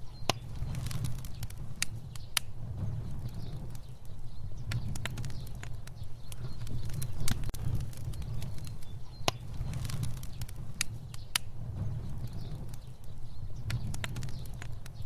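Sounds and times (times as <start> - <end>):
fire burning: 0.0 - 15.0
fire crackling and popping: 0.0 - 15.0.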